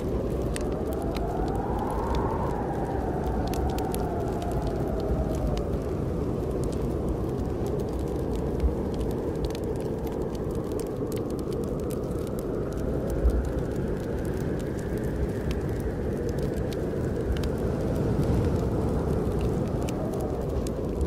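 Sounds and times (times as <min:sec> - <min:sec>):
faint wind howl: 0:00.0 - 0:21.0
fireplace wood fire crackling: 0:00.0 - 0:21.0
snowstorm wind blowing: 0:00.0 - 0:21.0.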